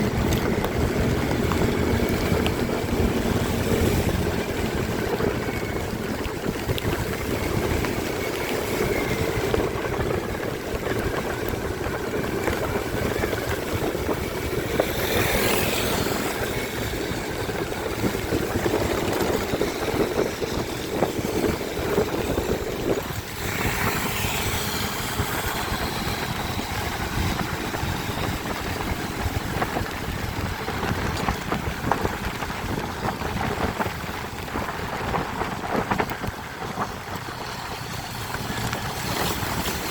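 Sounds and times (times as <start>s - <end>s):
motorcycle engine rumble: 0.0s - 39.9s
wind rush: 0.0s - 39.9s.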